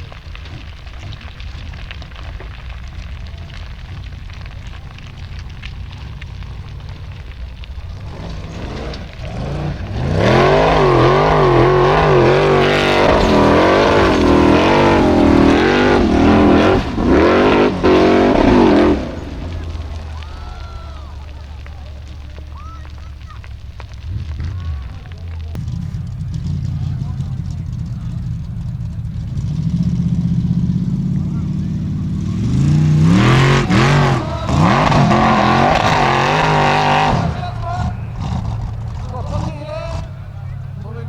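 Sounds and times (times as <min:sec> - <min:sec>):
racing car engine revving: 0:01.8 - 0:41.0.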